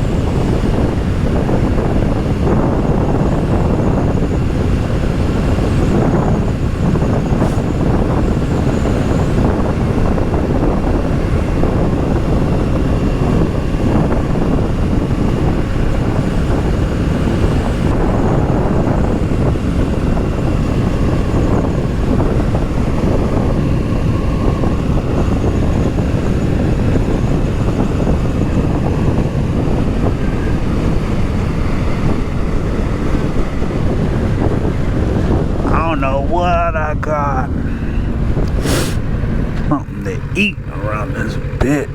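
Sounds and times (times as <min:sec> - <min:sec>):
wind rush on microphone: 0:00.0 - 0:41.9.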